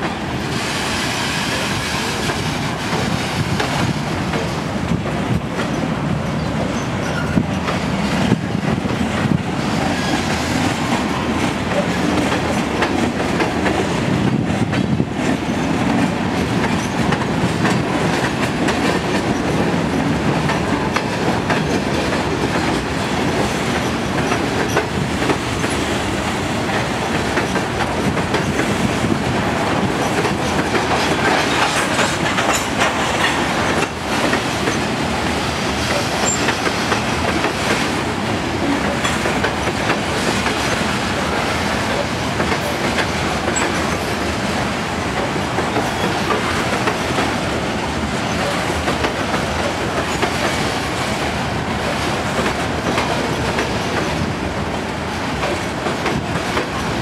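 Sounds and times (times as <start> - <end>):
rail clicks: 0.0 - 57.0
train wheels rushing on rails: 0.0 - 57.0.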